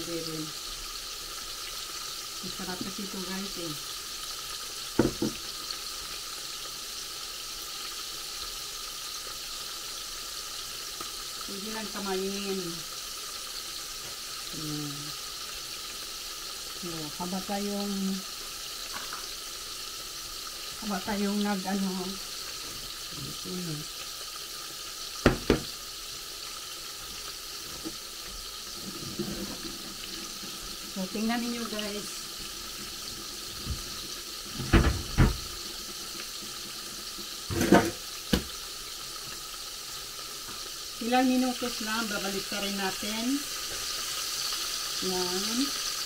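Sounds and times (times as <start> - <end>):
oil sizzling in frying pan: 0.0 - 46.0.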